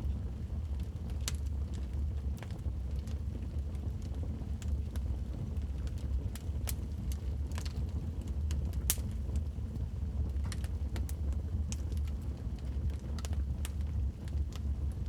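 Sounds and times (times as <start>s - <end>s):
wood fire crackling: 0.3s - 15.0s
sharp pops and snaps of fire: 0.8s - 15.0s.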